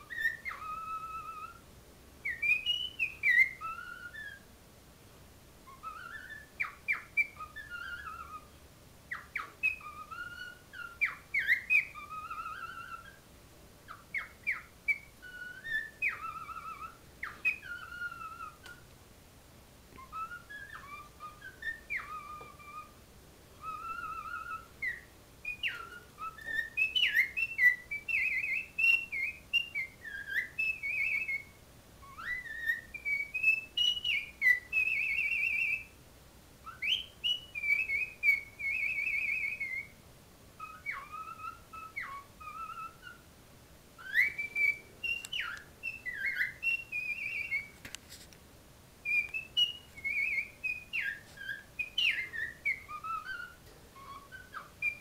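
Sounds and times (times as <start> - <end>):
cockatiel whistling: 0.0 - 4.5, 5.6 - 18.9, 19.9 - 36.0, 36.6 - 40.0, 40.6 - 43.3, 44.0 - 48.0, 49.0 - 55.0.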